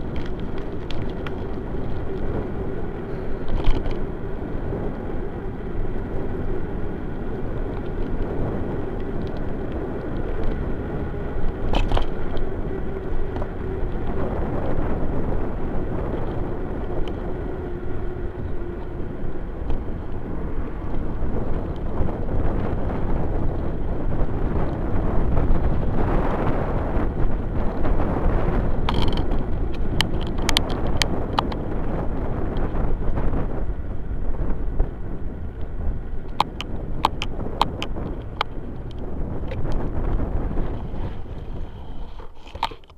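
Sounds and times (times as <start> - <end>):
bicycle rolling over paving stones: 0.0 - 42.9.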